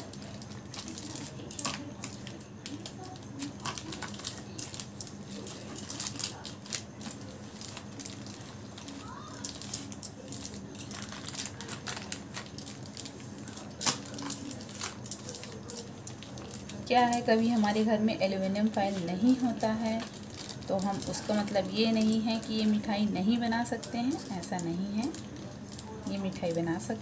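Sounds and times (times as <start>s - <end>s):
plastic and foil crinkling: 0.0s - 27.0s.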